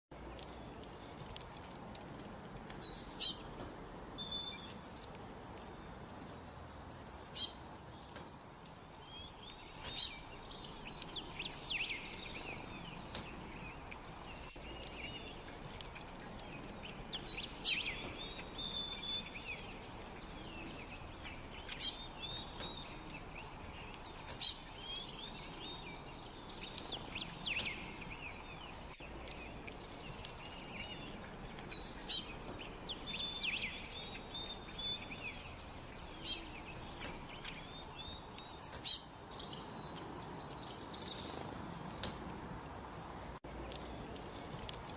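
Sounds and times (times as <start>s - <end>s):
faint background hiss: 0.1s - 44.9s
birds chirping and trilling: 0.2s - 44.9s
soft bird twittering: 2.7s - 44.6s.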